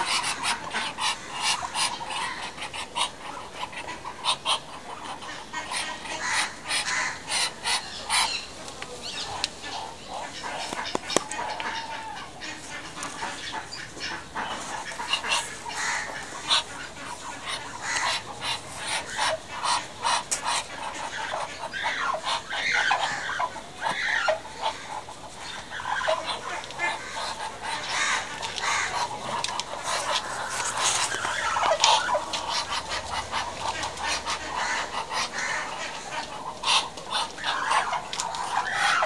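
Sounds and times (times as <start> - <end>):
birds chirping and clicking: 0.0 - 39.0.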